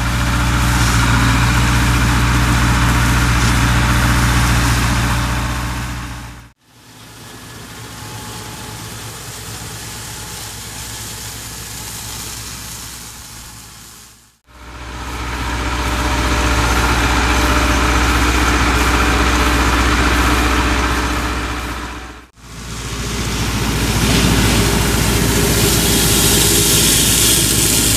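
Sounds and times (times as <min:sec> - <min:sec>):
engine running steadily: 0:00.0 - 0:13.8, 0:14.5 - 0:27.9.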